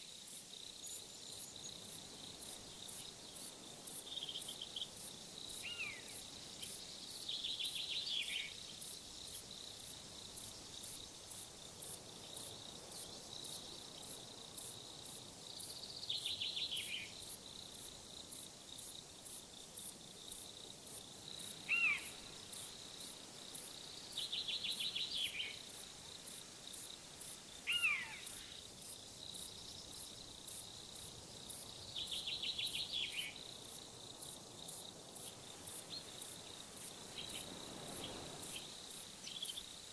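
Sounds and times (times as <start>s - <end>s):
crickets chirping: 0.0s - 39.9s
steady high singing insects: 0.0s - 39.9s.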